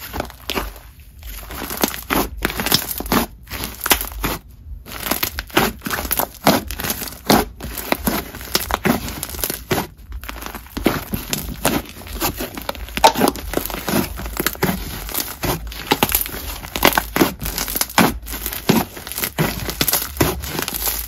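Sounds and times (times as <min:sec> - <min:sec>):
hands squishing slime: 0:00.0 - 0:21.0.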